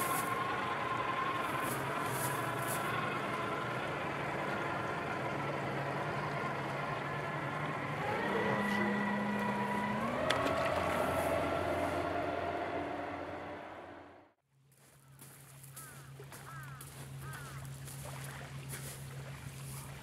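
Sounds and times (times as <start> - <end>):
motor engine humming: 0.0 - 14.4, 15.8 - 20.0.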